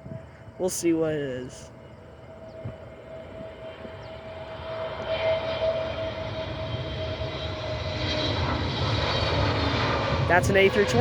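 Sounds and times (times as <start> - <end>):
jet airliner engine whine: 0.0 - 11.0.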